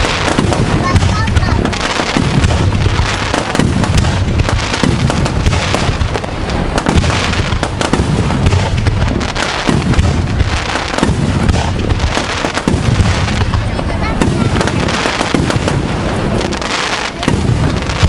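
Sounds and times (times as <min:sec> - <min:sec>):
fireworks bursts and crackles: 0:00.0 - 0:18.0.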